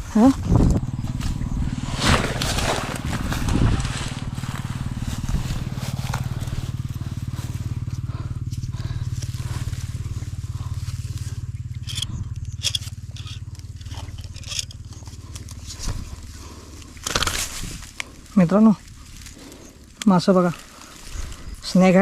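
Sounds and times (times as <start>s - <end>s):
low pulsing hum: 0.0s - 22.0s.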